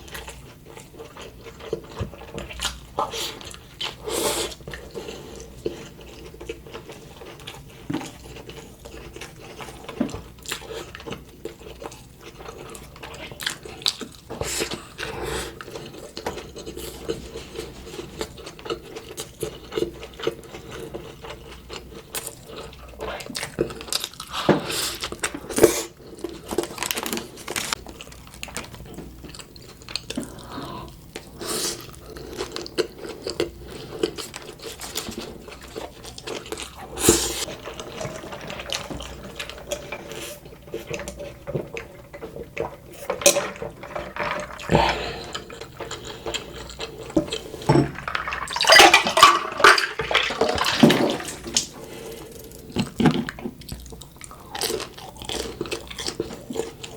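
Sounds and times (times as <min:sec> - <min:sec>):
food being bitten and chewed: 0:00.0 - 0:48.0, 0:51.0 - 0:56.9.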